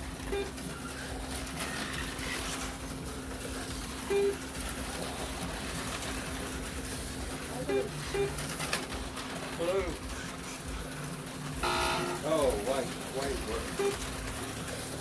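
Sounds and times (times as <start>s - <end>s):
slot cars whirring: 0.0s - 15.0s.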